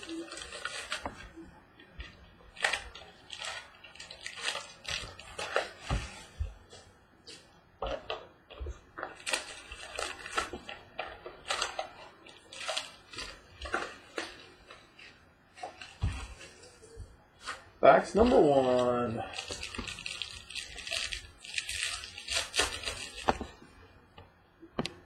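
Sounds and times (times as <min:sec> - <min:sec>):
plastic wrap and cardboard rustling: 0:00.0 - 0:24.0.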